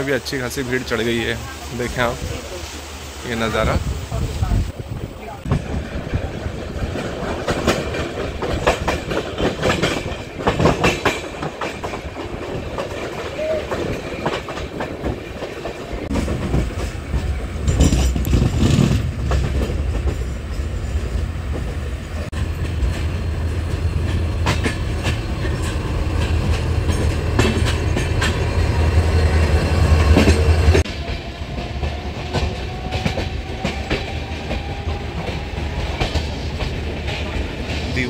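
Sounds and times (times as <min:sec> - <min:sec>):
train rumbling on track: 0:00.0 - 0:38.0
wheels clicking over rail joints: 0:05.3 - 0:38.0.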